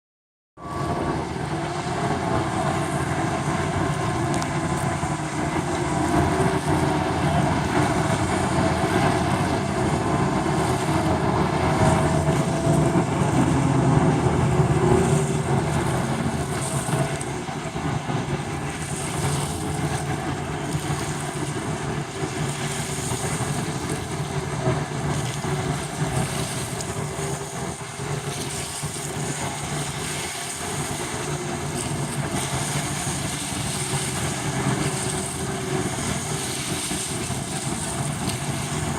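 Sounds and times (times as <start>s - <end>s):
outboard motors droning: 0.6s - 38.9s.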